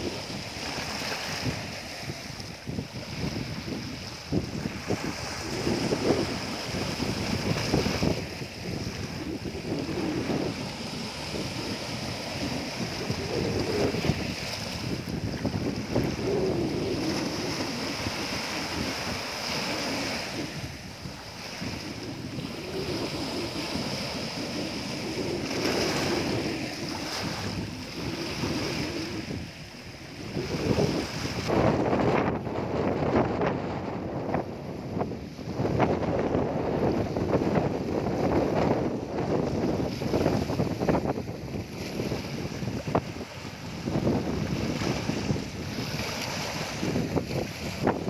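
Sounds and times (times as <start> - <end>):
small waves on stony shore: 0.0 - 48.0
wind buffeting microphone: 0.0 - 48.0.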